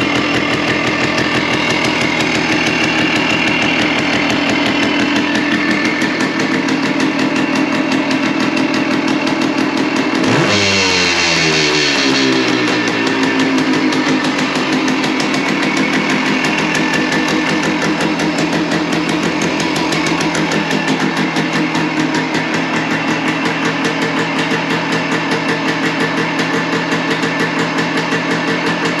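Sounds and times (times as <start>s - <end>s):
two-stroke engine revving and idling: 0.0s - 29.0s.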